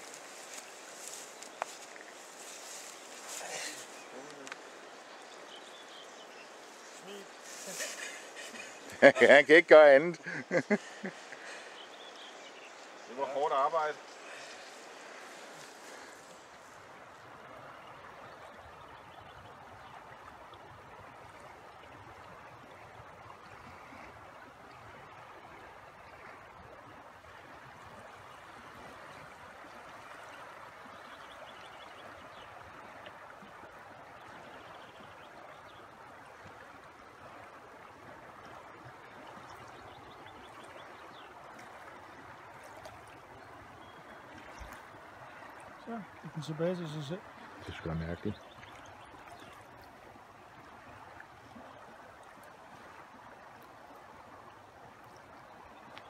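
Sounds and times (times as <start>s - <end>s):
river rushing: 0.0s - 55.7s.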